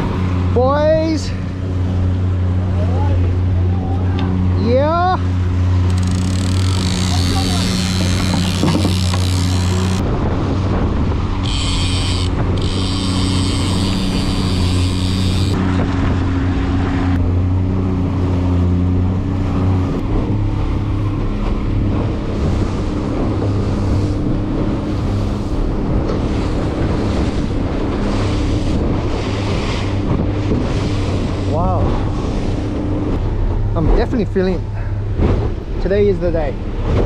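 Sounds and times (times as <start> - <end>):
boat engine running: 0.0 - 37.0
water rushing against hull: 0.0 - 37.0
wind buffeting microphone: 0.0 - 37.0.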